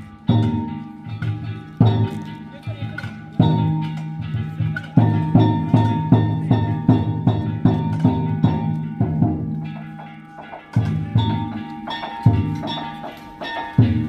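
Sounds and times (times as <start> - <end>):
taiko drum and gongs beaten: 0.0 - 14.0.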